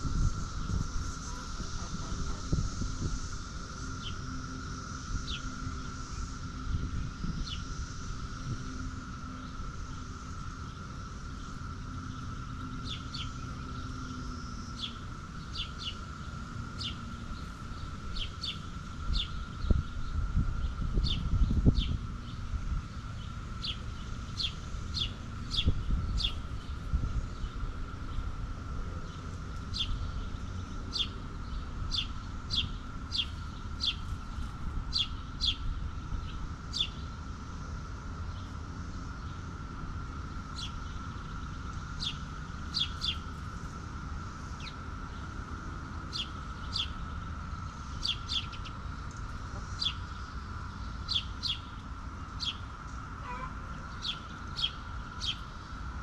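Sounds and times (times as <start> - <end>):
birds chirping: 0.0 - 56.0
steady high hum: 0.0 - 56.0.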